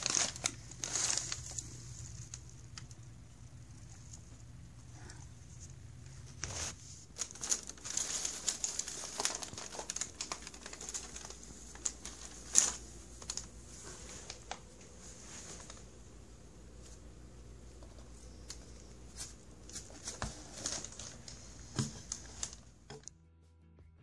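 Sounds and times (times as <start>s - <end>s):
paper and cardboard crinkling: 0.0s - 3.2s, 5.0s - 16.0s, 17.7s - 22.8s.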